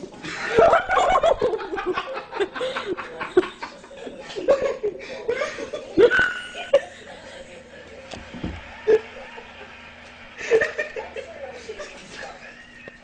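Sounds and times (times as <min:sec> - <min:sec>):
people laughing: 0:00.1 - 0:13.0.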